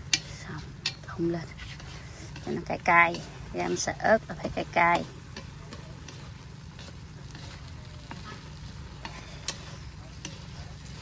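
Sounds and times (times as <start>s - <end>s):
chopsticks clicking against pan: 0.0s - 11.0s
meat sizzling in a wok: 0.0s - 11.0s.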